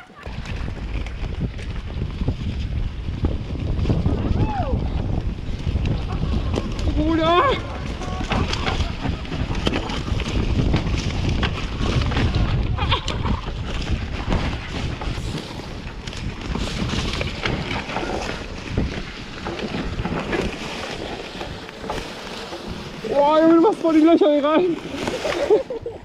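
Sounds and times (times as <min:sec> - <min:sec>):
bike rumbling and rattling on dirt: 0:00.0 - 0:26.0
wind on microphone: 0:00.0 - 0:26.0.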